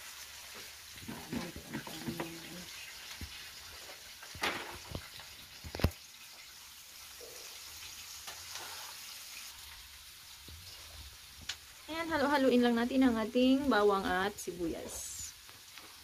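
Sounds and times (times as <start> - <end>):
onion and garlic sizzling in oil: 0.0 - 16.0.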